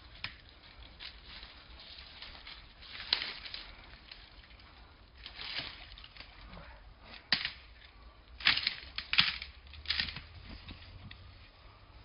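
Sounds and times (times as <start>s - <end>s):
scuffling in dry leaves and soil: 0.0s - 11.6s.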